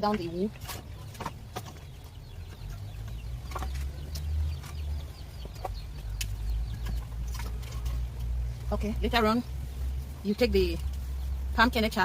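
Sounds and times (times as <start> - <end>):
steady low rumble: 0.9 - 12.0.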